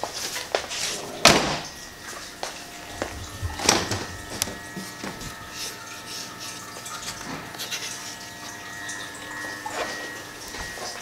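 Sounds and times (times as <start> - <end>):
washer pump whine: 0.0 - 11.0.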